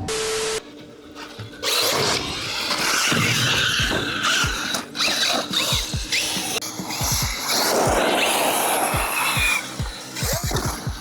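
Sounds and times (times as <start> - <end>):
toy truck motor whining: 0.0 - 11.0
tyres on concrete: 0.8 - 11.0.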